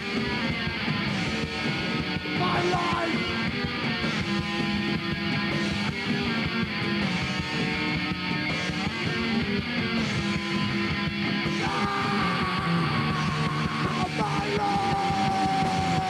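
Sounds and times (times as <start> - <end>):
guitar over steady beat: 0.0 - 16.0
rock band playing: 0.0 - 16.0.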